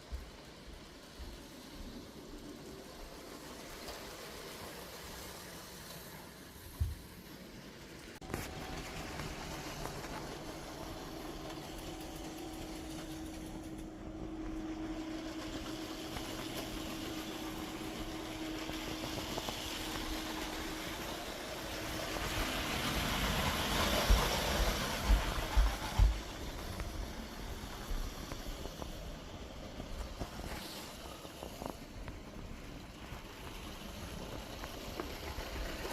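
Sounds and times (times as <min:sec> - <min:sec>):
toy train motor humming: 0:00.0 - 0:35.9.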